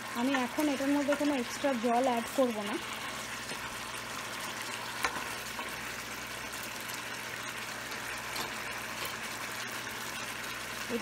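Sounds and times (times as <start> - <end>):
curry sizzling and bubbling: 0.0 - 11.0.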